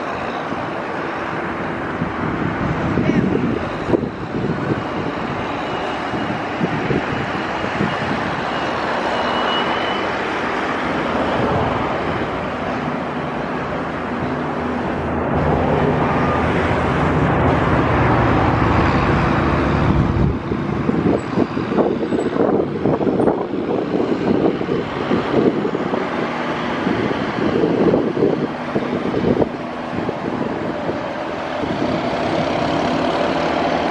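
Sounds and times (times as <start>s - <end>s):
engine humming: 0.0s - 33.9s
wind buffeting microphone: 0.0s - 33.9s.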